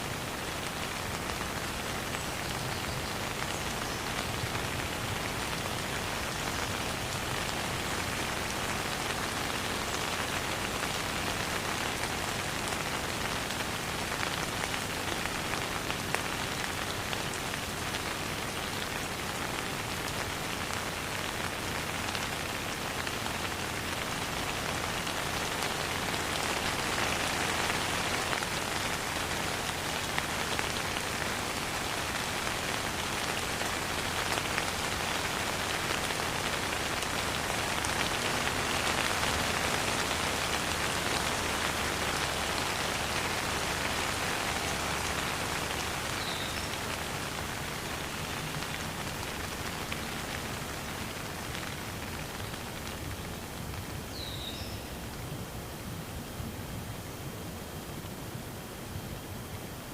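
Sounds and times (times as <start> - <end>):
raindrops ticking close by: 0.0 - 54.7
steady rain: 0.0 - 59.9.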